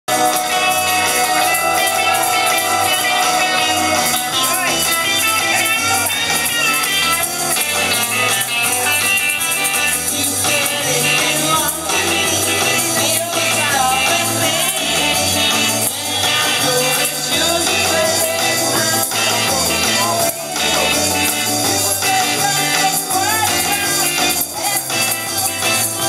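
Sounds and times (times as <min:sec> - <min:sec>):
amplified backing music: 0:00.1 - 0:26.0.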